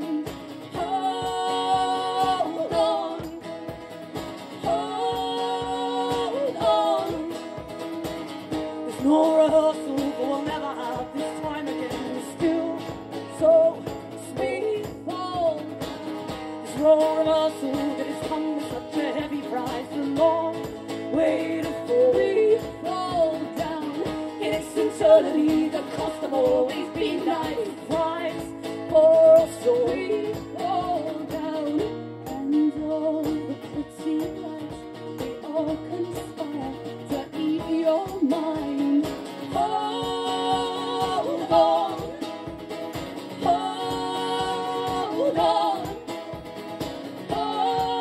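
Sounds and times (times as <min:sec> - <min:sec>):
person singing: 0:00.0 - 0:03.5, 0:04.5 - 0:07.7, 0:08.8 - 0:15.8, 0:16.6 - 0:42.6, 0:43.3 - 0:46.4, 0:47.2 - 0:48.0
live band steady beat: 0:00.0 - 0:32.6, 0:33.3 - 0:48.0.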